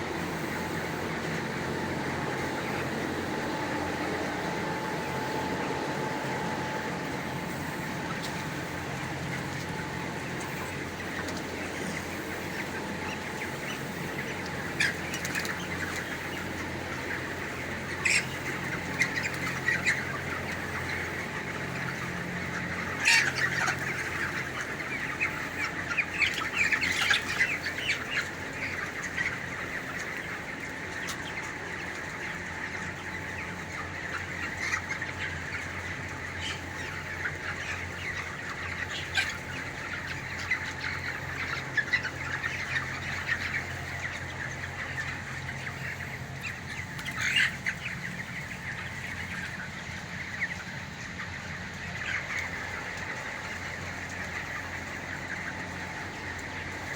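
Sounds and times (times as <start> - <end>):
chicks peeping: 0.0 - 56.9
sharp chick calls: 0.1 - 56.9.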